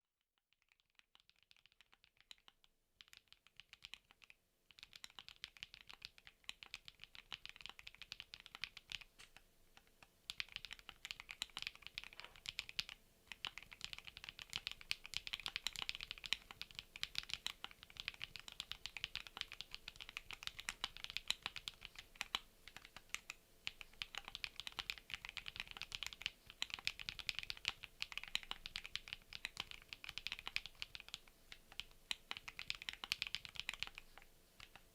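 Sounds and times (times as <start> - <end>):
mechanical keyboard typing: 0.6 - 34.9.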